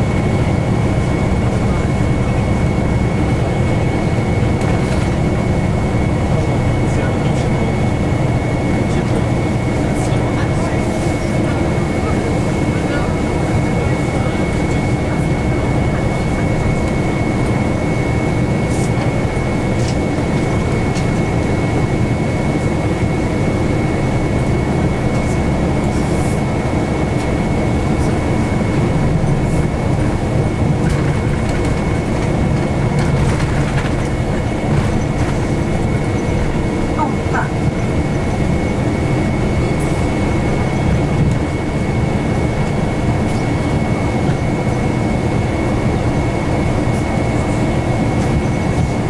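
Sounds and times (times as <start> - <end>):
bus rumbling from inside: 0.0 - 49.0.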